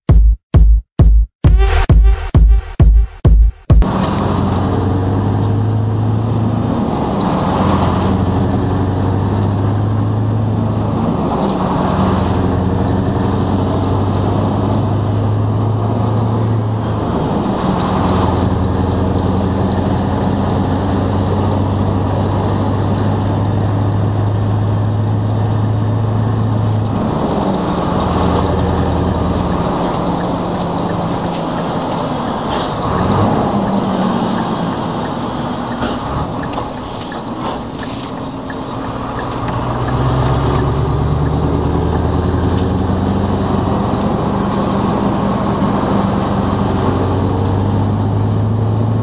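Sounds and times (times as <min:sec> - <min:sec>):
diesel truck engine running: 0:01.5 - 0:49.0.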